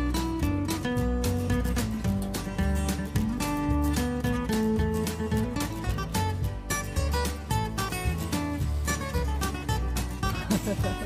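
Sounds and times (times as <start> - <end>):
acoustic guitar music with beat: 0.0 - 11.0.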